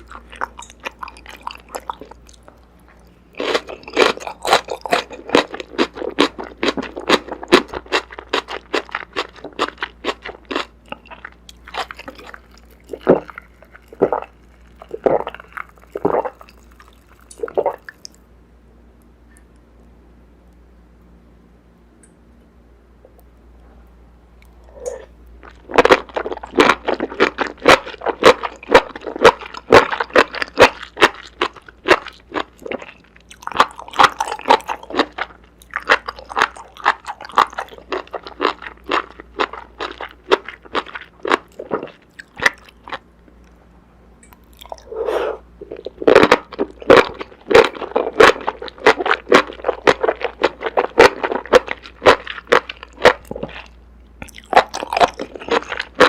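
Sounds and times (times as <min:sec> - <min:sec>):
crunchy chewing: 0:00.0 - 0:18.2, 0:24.4 - 0:43.6, 0:44.2 - 0:56.0.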